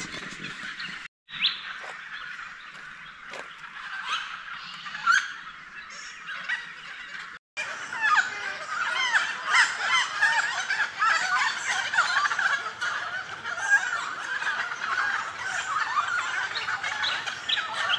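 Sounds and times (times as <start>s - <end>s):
birds calling in chorus: 0.0s - 17.9s.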